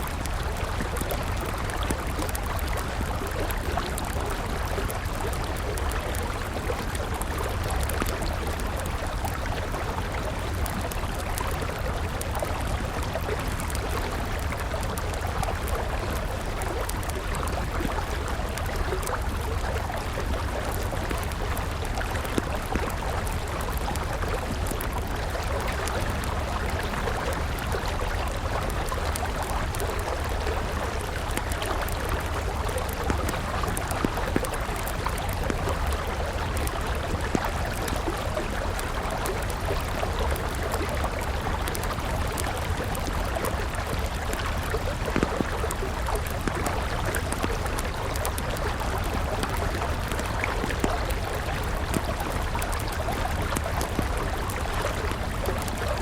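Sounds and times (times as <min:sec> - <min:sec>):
campfire crackling: 0:00.0 - 0:56.0
river water flowing: 0:00.0 - 0:56.0.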